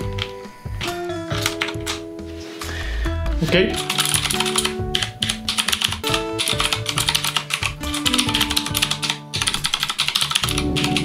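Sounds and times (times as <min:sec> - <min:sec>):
background music: 0:00.0 - 0:11.0
mechanical keyboard typing: 0:00.1 - 0:02.0, 0:03.7 - 0:11.0.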